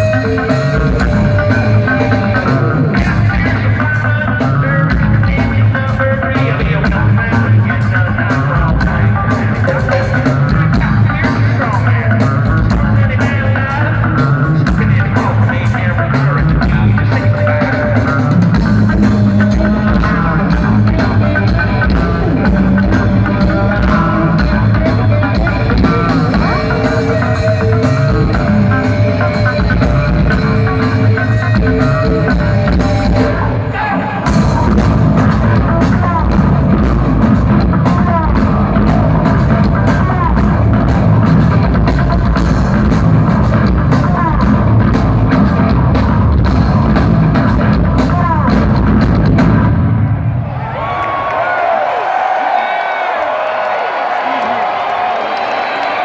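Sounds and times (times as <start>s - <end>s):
electric guitar: 0.0s - 51.2s
bass guitar: 0.0s - 51.8s
rock band playing live: 0.0s - 52.4s
drum kit: 0.0s - 56.0s.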